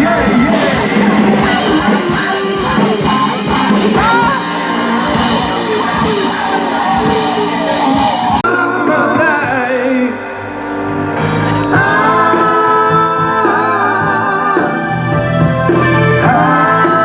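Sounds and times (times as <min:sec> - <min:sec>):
full-band music: 0:00.0 - 0:17.0.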